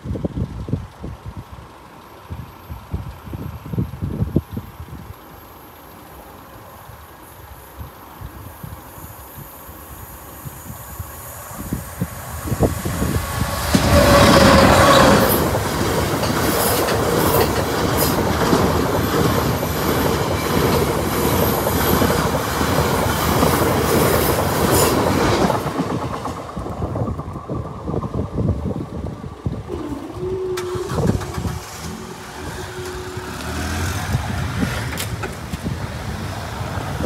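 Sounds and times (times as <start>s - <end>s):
diesel locomotive passing: 1.5s - 37.0s.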